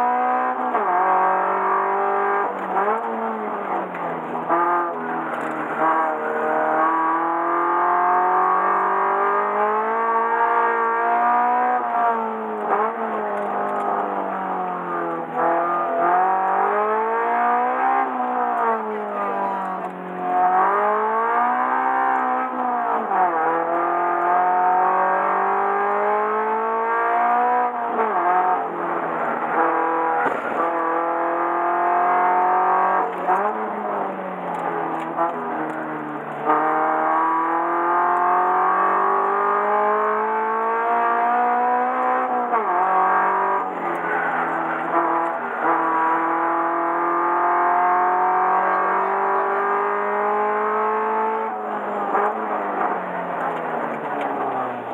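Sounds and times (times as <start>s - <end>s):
car engine revving with gearshifts: 0.0s - 54.9s.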